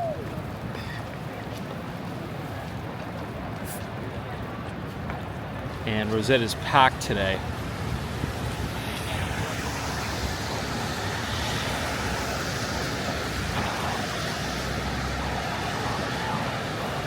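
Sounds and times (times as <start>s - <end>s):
traffic: 0.0s - 17.0s
wind: 0.0s - 17.0s.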